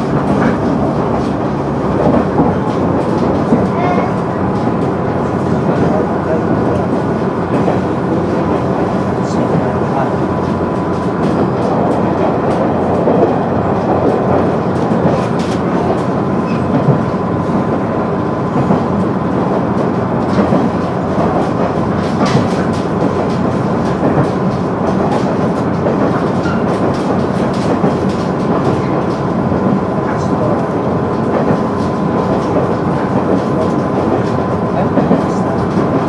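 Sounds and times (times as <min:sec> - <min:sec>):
rail joint clicks: 0:00.0 - 0:36.0
train engine and wheels rumbling: 0:00.0 - 0:36.0.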